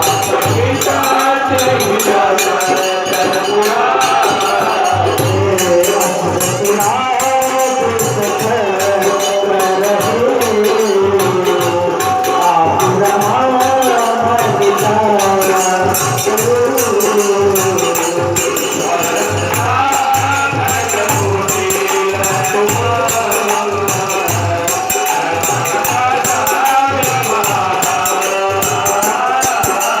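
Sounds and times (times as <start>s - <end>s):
devotional song melody: 0.0s - 30.0s
jingle percussion beat: 0.0s - 30.0s.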